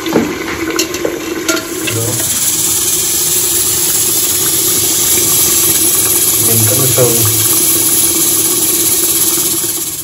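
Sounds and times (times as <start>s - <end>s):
chicken frying with sizzling hiss: 1.6s - 10.0s.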